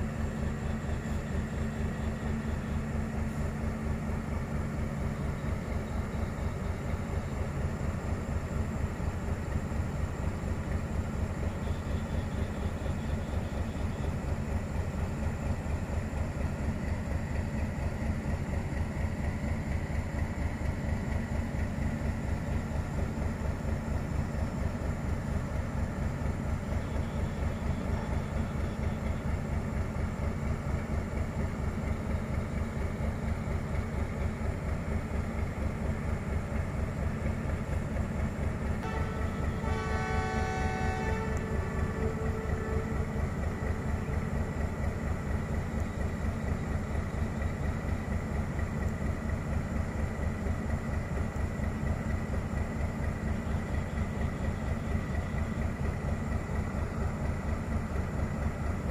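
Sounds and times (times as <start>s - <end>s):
diesel locomotive engine idling: 0.0s - 58.9s.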